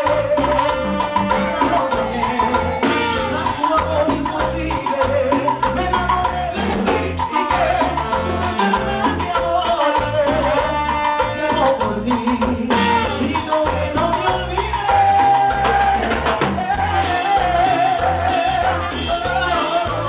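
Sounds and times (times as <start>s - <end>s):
lead vocal singing: 0.0s - 20.0s
percussion beat: 0.0s - 20.0s
salsa band playing: 0.0s - 20.0s.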